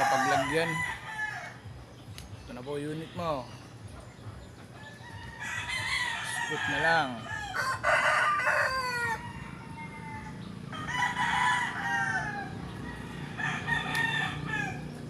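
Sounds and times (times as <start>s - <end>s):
roosters crowing: 0.0s - 2.0s, 3.0s - 15.0s.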